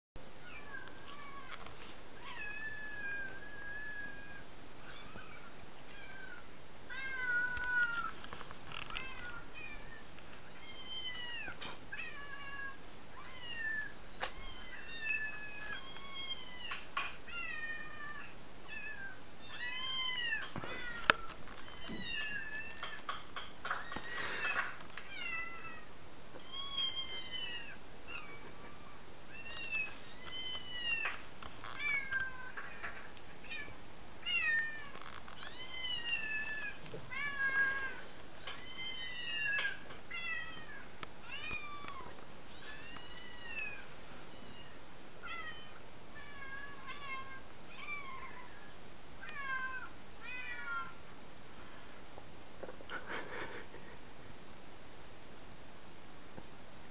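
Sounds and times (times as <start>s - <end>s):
cats meowing: 0.4s - 51.0s.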